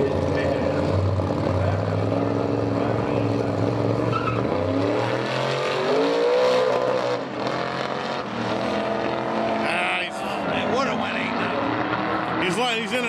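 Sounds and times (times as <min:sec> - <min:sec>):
engine at full throttle: 0:00.0 - 0:13.0.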